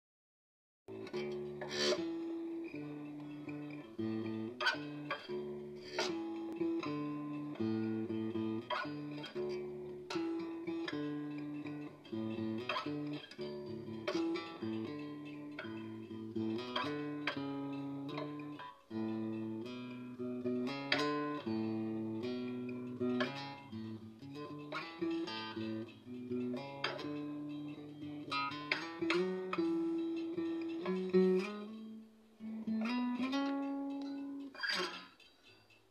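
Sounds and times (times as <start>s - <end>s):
acoustic guitar plucked: 0.9s - 35.8s.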